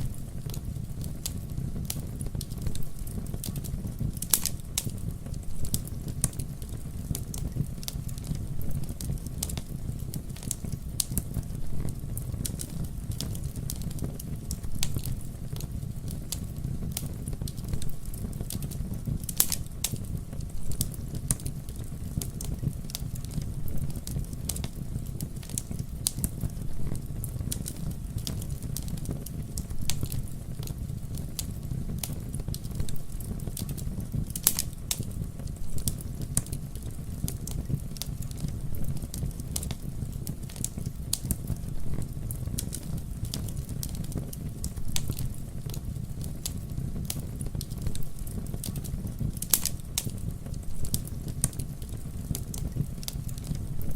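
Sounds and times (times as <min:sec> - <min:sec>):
burning wood crackling and popping: 0:00.0 - 0:53.9
flames rumbling: 0:00.0 - 0:53.9.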